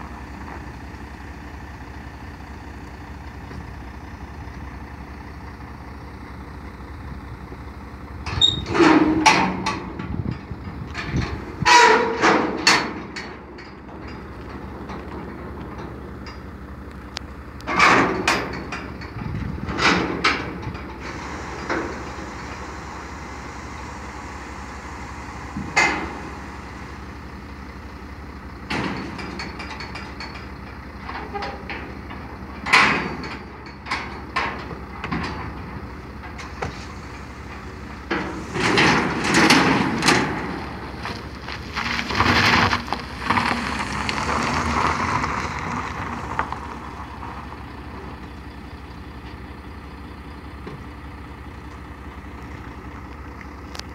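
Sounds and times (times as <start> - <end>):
low engine hum: 0.0 - 53.9
steel ramps clanking: 8.1 - 52.8.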